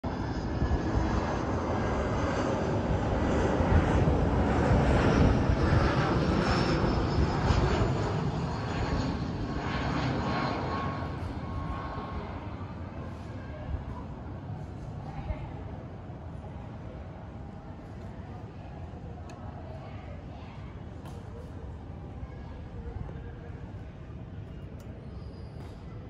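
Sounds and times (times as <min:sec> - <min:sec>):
jet airliner engine drone: 0:00.0 - 0:26.0.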